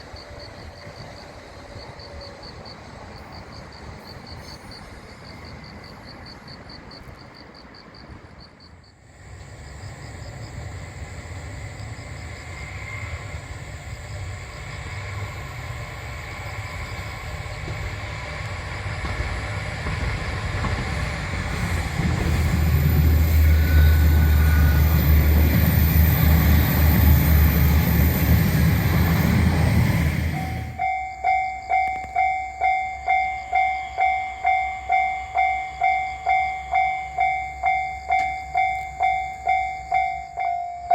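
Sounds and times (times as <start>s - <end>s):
diesel railcar passing: 0.0s - 40.9s.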